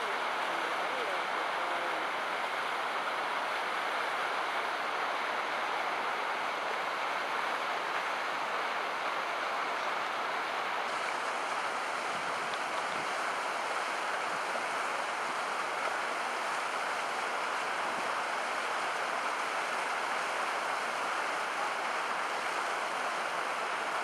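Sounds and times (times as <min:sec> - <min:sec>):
stream water rushing over rocks: 0:00.0 - 0:24.0.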